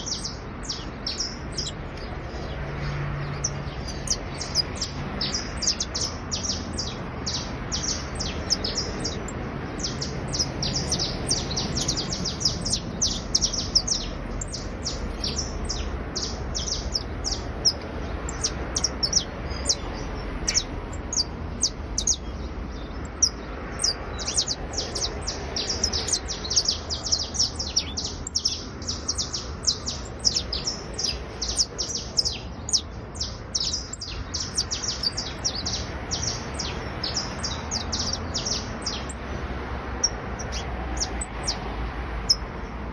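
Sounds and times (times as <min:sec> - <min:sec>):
canary singing: 0:00.0 - 0:42.6.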